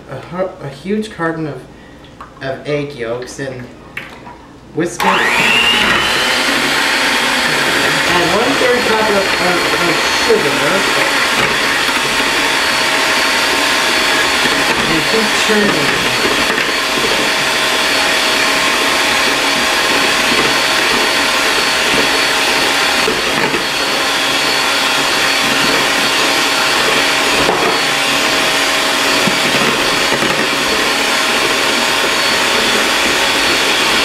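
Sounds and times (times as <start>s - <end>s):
electric hand mixer whisking: 5.0s - 34.0s.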